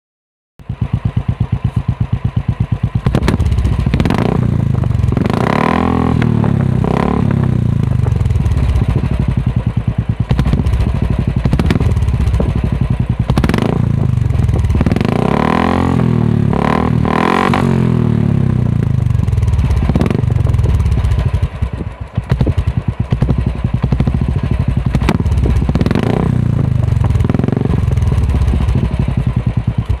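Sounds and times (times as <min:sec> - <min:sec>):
motorcycle engine revving: 0:00.6 - 0:30.0.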